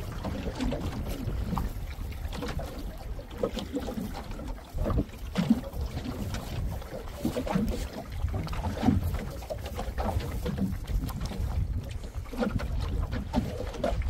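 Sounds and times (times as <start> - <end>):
waves lapping against boat hull: 0.0 - 14.0
wind buffeting microphone: 0.0 - 14.0.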